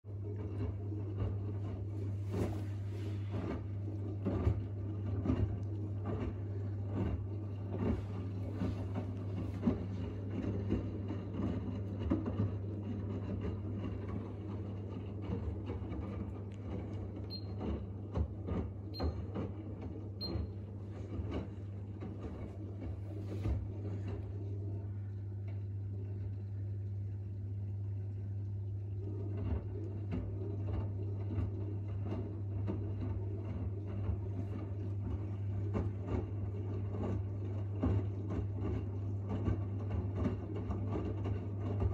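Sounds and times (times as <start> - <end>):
washing machine running: 0.0 - 41.9.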